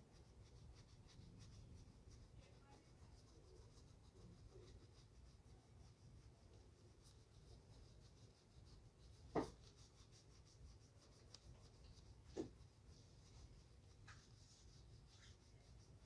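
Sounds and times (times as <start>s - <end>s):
rubbing strokes on leather shoe: 0.0s - 16.0s.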